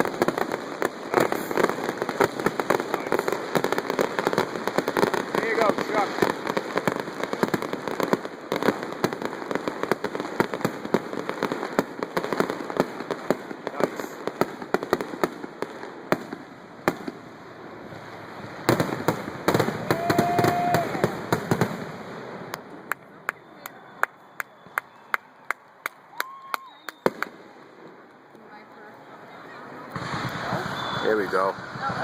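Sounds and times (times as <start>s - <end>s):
fireworks cracks and bangs: 0.0s - 32.0s.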